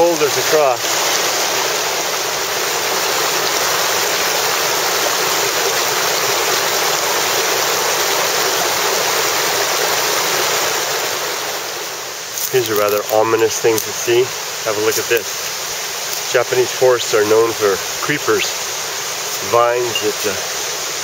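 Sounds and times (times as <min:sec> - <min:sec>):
river rushing over boulders: 0:00.0 - 0:21.0.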